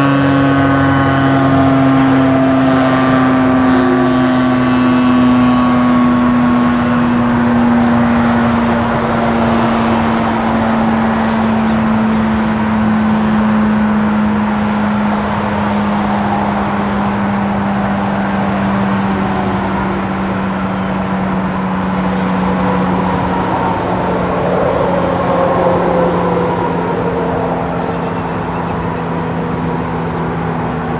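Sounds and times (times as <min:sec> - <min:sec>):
highway traffic rush: 0:00.0 - 0:30.9
outdoor warning siren tone: 0:00.0 - 0:30.9.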